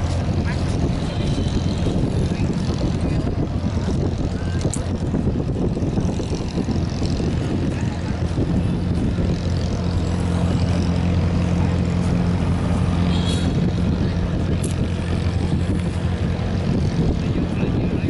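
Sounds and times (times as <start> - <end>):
diesel boat engine drone: 0.0 - 18.0.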